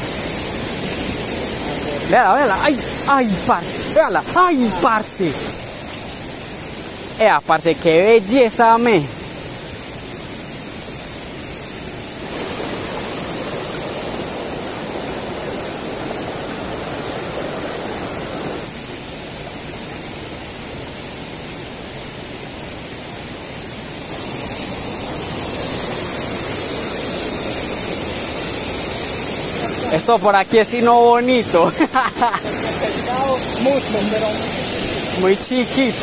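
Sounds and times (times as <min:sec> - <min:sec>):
stream rushing over rocks: 0:00.0 - 0:36.0.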